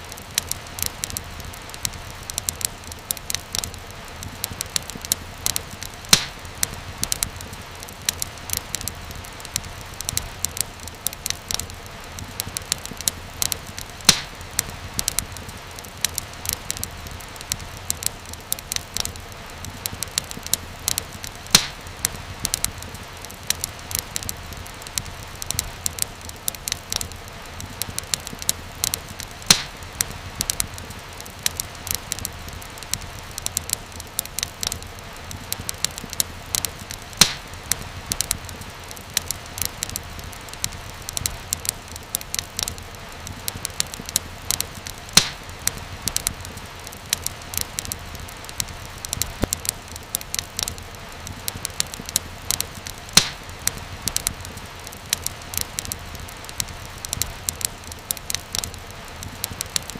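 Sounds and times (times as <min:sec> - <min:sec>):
fire crackling and popping: 0:00.0 - 0:59.9
low rumble of flames: 0:00.0 - 0:59.9.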